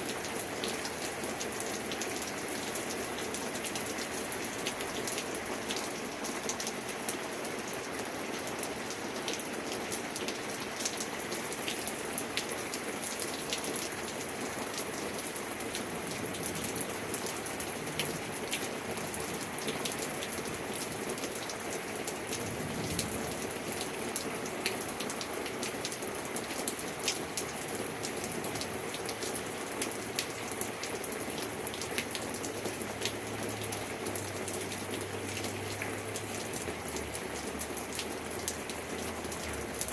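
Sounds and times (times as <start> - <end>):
raindrops ticking on hard surface: 0.0 - 39.9.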